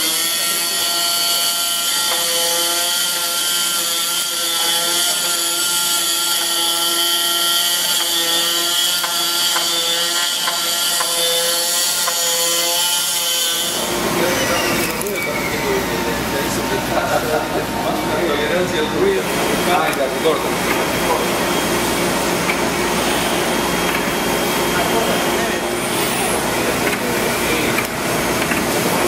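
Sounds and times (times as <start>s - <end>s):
cutting machine motor whine: 0.0s - 29.0s.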